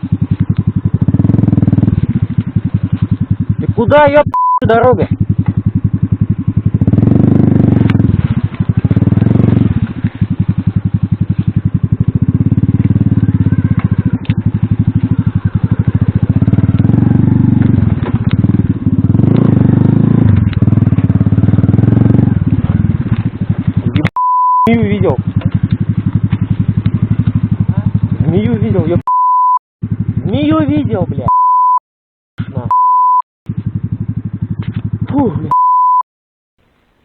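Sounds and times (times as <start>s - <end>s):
moped engine revving: 0.0s - 29.1s, 29.8s - 31.4s, 32.5s - 35.6s.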